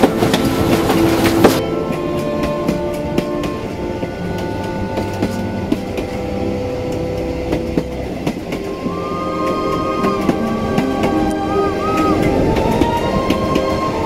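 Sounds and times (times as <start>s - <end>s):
train rumbling on track: 0.0s - 14.0s
wheels clicking over rail joints: 0.0s - 14.0s.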